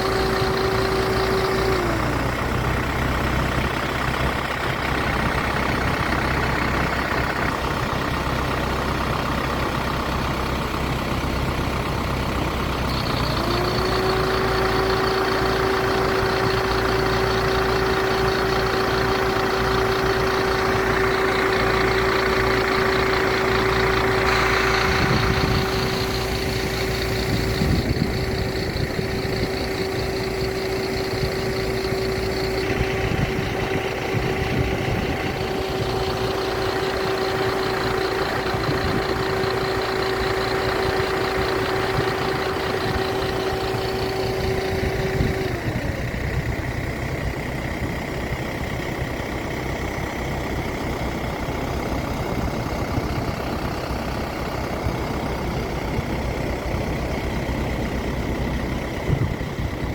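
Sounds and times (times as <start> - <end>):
noisy rumble: 0.0 - 59.9
vehicle engine hum: 0.0 - 59.9.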